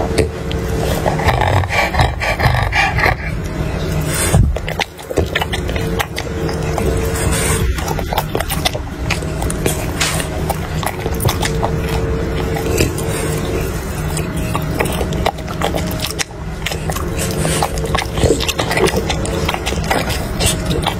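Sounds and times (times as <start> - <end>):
dog chewing and lip smacking: 0.0 - 20.9
low hum: 0.0 - 20.9.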